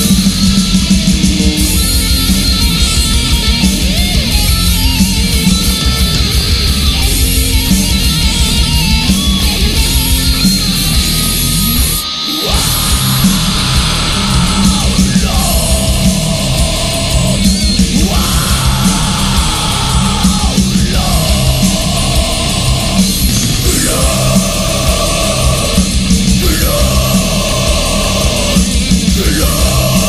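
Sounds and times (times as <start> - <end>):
heavy rock band music: 0.0 - 30.0.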